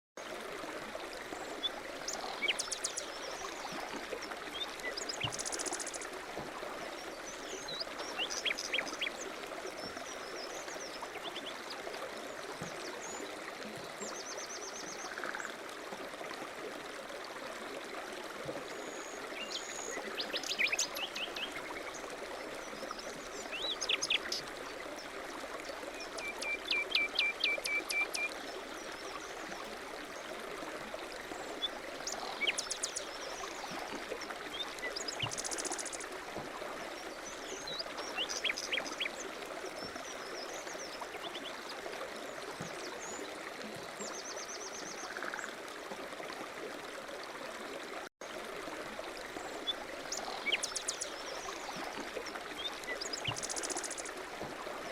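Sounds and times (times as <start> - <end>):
running water: 0.2 - 54.9.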